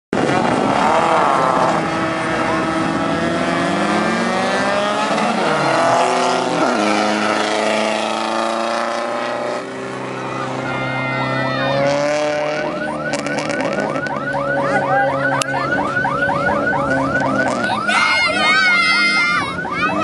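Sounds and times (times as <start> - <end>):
race car engines revving: 0.2 - 20.0.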